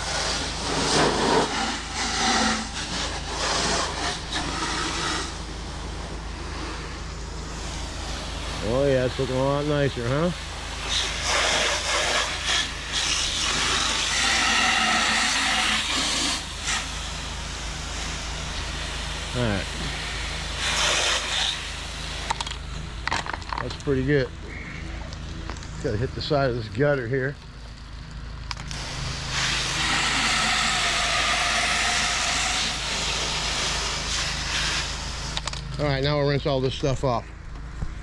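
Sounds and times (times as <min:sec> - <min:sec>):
pressure washer spraying water: 0:00.0 - 0:26.6, 0:28.6 - 0:36.0
engine humming: 0:00.0 - 0:38.0.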